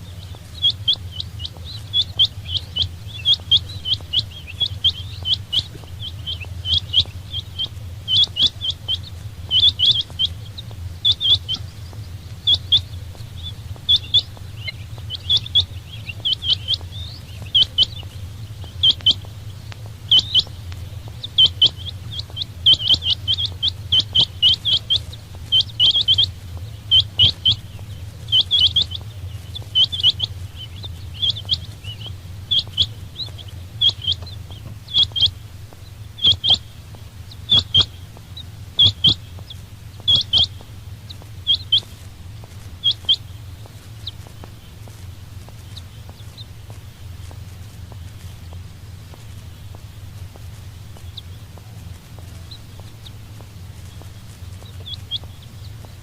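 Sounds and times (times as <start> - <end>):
quail chirping: 0.0 - 56.0
steady low hum: 0.0 - 56.0.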